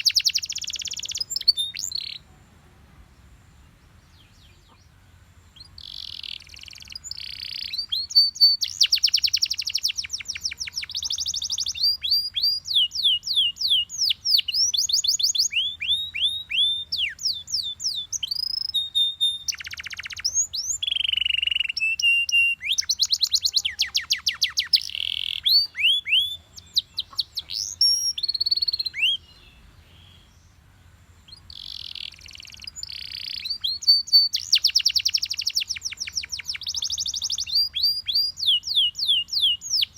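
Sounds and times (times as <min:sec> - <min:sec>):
canary singing trills and whistles: 0:00.0 - 0:02.3, 0:05.5 - 0:30.3, 0:31.2 - 0:39.9.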